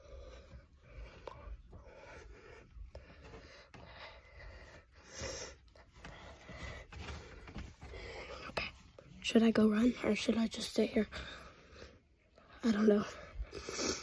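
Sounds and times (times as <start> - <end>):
person breathing: 0.0 - 9.0, 11.0 - 14.0.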